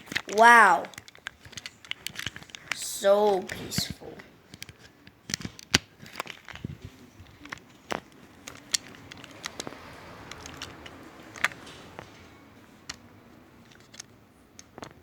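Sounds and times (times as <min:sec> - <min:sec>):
light clicks of small objects: 0:00.0 - 0:15.0.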